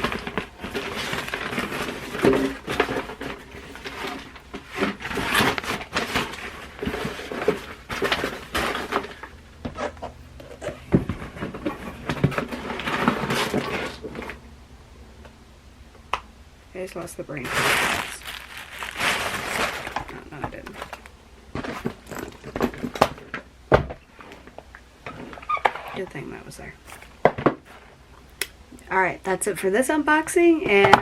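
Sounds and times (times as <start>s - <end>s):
cardboard and plastic rustling: 0.0s - 14.4s, 17.3s - 28.3s.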